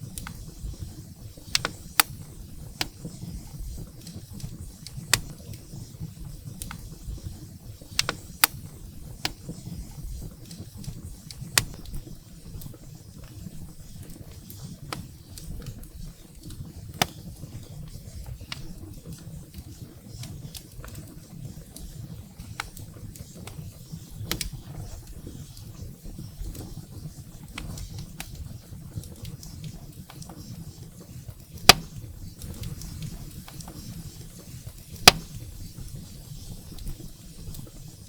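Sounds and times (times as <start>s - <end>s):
firewood crackling and popping: 0.0s - 38.0s
low rumble of flames: 0.0s - 38.0s.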